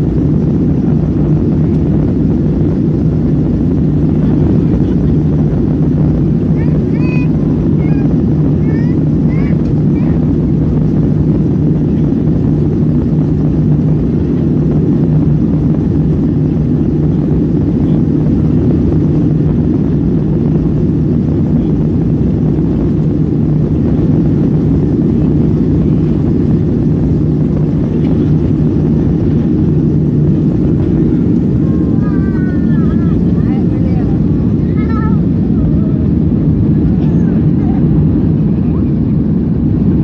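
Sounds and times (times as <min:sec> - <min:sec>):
constant low hum: 0:00.0 - 0:40.0
jet engines roaring at takeoff: 0:00.0 - 0:40.0.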